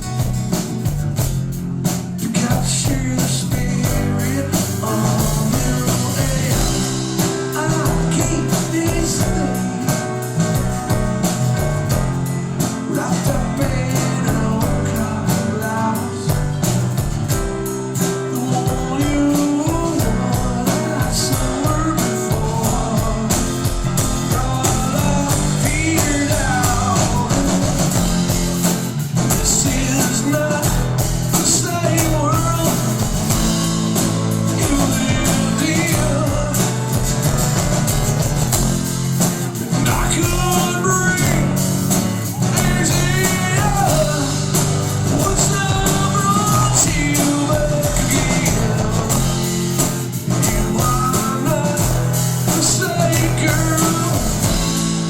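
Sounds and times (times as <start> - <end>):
bass guitar: 0.0 - 55.0
drum beat: 0.0 - 55.0
electric guitars: 0.0 - 55.0
person singing: 2.0 - 55.0.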